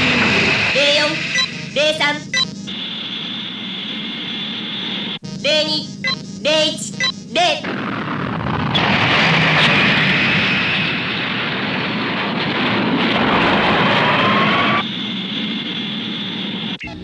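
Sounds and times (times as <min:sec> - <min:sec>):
rocket engines firing: 0:00.0 - 0:17.0.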